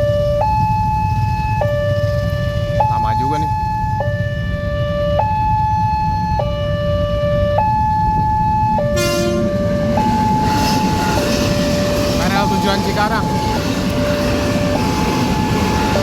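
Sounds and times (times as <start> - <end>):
level crossing siren two-tone: 0.0 - 16.0
steady low rumble: 0.0 - 16.0.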